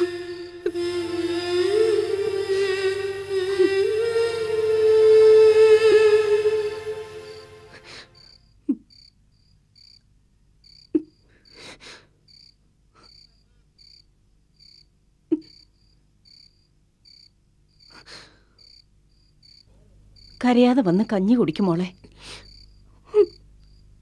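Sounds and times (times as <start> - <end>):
crickets chirping: 0.0 - 11.7, 12.3 - 24.0.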